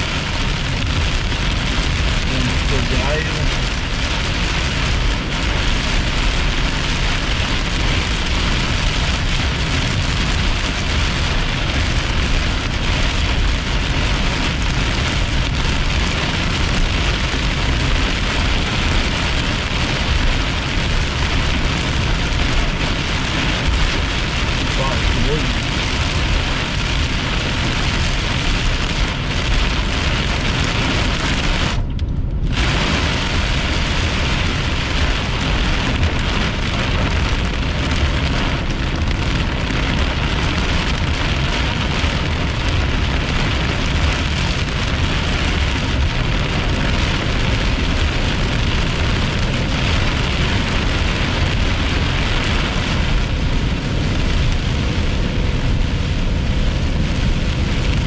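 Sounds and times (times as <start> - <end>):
heavy rain pelting a car: 0.0 - 58.0
low road rumble: 0.0 - 58.0.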